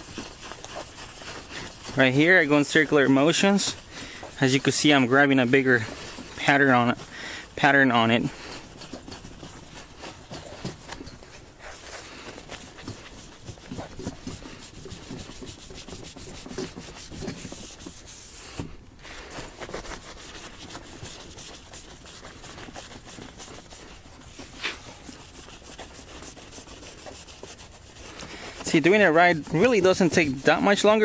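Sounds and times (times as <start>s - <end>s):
hand rubbing glass: 0.0s - 31.0s.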